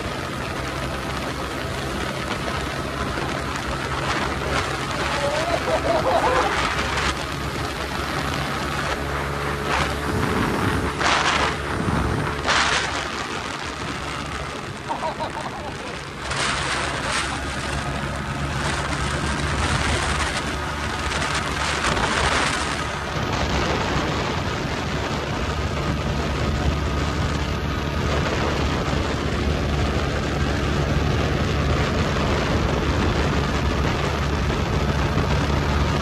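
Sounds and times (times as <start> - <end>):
motorcycle engine running: 0.0 - 36.0
wind on microphone: 0.0 - 36.0.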